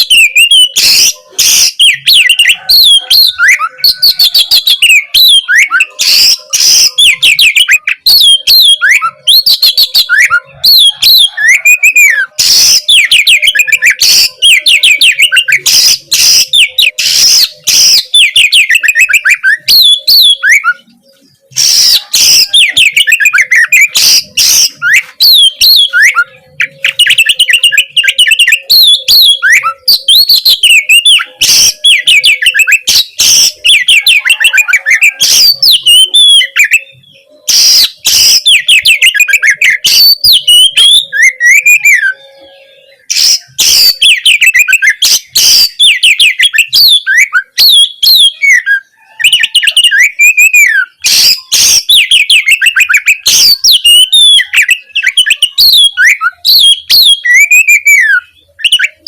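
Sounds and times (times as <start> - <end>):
bird singing whistled trills: 0.0 - 59.0.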